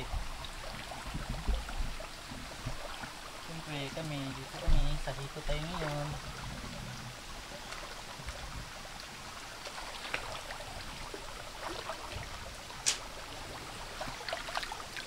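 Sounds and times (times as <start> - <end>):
creek water flowing: 0.0 - 15.0
water splashing and sloshing: 0.0 - 15.0.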